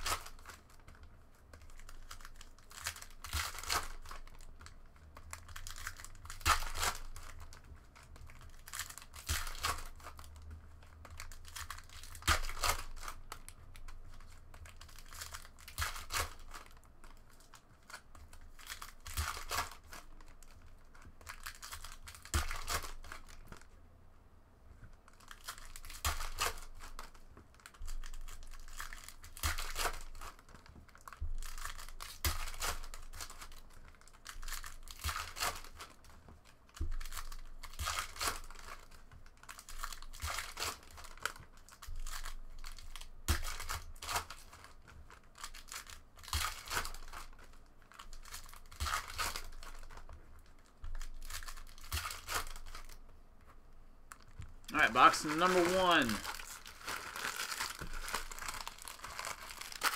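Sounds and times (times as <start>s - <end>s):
foil packs tearing and crinkling: 0.0s - 1.0s, 1.6s - 7.7s, 8.3s - 10.4s, 11.0s - 20.6s, 21.2s - 23.4s, 25.1s - 36.0s, 36.7s - 53.0s, 54.7s - 59.9s.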